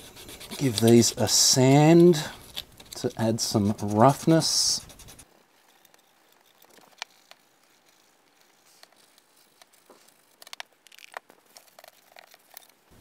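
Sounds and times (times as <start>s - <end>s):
sandpaper scratching plastic: 0.0s - 12.8s.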